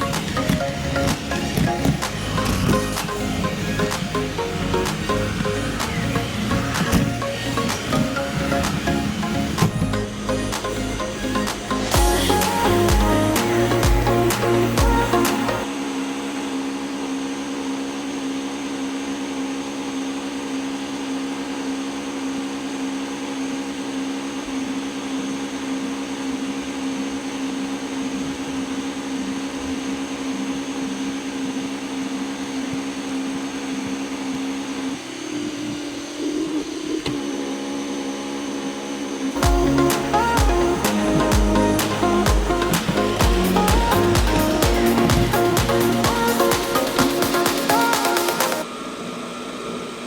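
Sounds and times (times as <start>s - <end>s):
robot vacuum motor hum: 0.0s - 49.9s.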